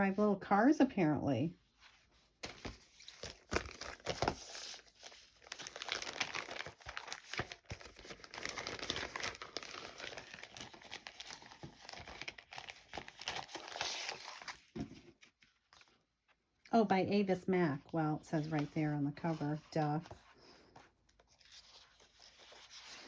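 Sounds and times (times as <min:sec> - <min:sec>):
packaging crinkling and rustling: 0:02.3 - 0:16.4, 0:18.4 - 0:23.0.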